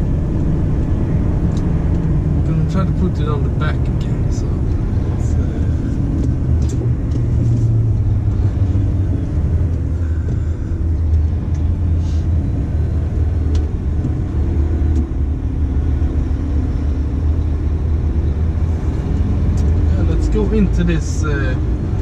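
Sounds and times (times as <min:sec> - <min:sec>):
road rumble: 0:00.0 - 0:22.0
truck diesel engine droning: 0:00.0 - 0:22.0.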